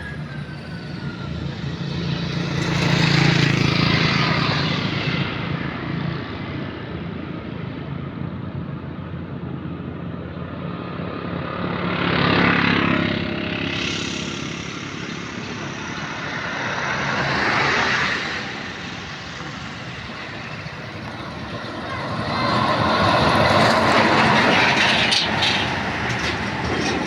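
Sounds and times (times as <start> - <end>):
steady engine hum: 0.0 - 27.0
vehicles passing by: 0.0 - 27.0.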